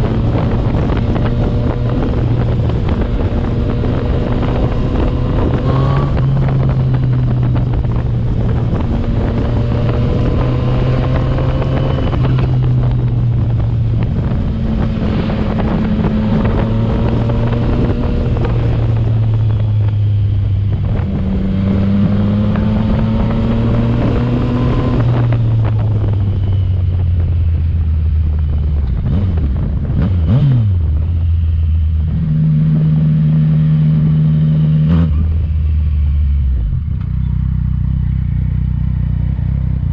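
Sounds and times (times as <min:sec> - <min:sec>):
wind noise on microphone: 0:00.0 - 0:37.2
motorcycle engine revving: 0:00.0 - 0:39.9.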